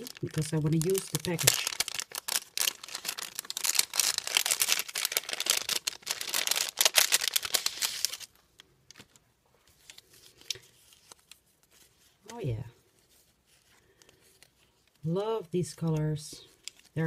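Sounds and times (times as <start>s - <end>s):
paper envelope crinkling: 0.0s - 17.0s.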